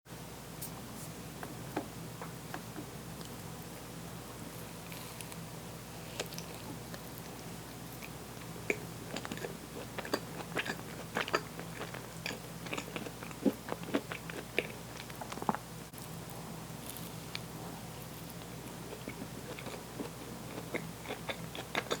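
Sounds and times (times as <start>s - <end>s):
faint low hum: 0.1s - 22.0s
crunchy chewing of food: 3.1s - 22.0s.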